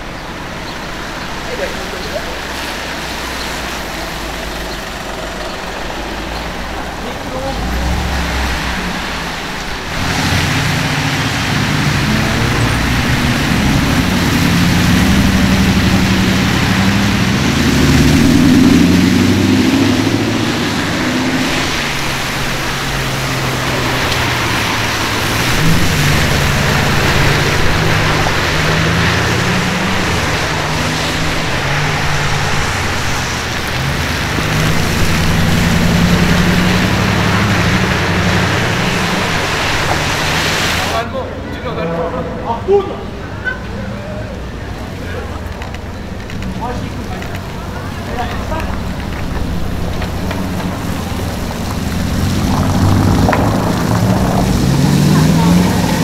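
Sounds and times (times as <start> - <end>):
wet road spray and rain: 0.0 - 56.0
car engine revving past: 1.0 - 41.0, 46.4 - 56.0.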